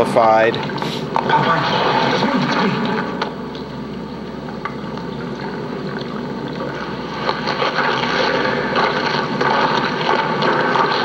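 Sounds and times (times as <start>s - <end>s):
hissy television soundtrack: 0.0s - 11.0s.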